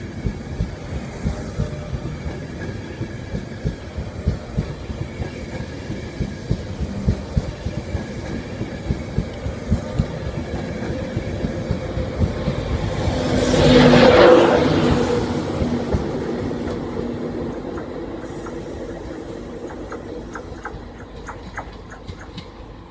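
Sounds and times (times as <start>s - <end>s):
train coaches rumbling past: 0.0s - 22.9s
train wheels clicking over rail joints: 0.0s - 22.9s.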